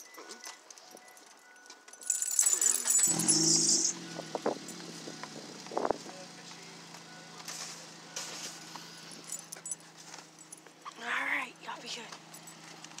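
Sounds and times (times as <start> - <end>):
car engine starting and idling: 2.0 - 13.0.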